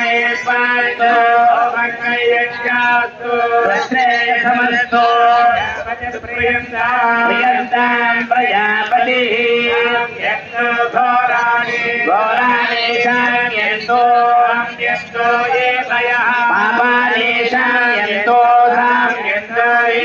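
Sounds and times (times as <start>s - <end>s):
man chanting over loudspeakers: 0.0s - 20.0s.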